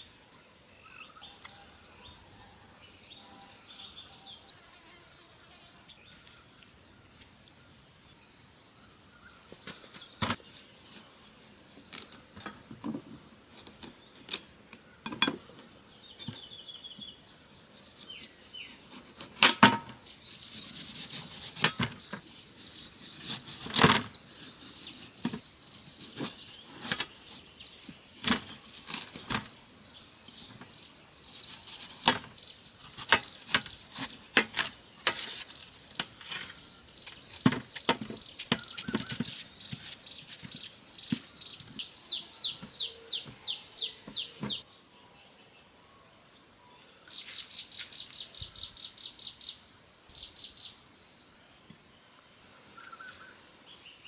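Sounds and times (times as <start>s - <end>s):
insects: 0.0s - 54.0s
birds chirping: 5.8s - 54.0s.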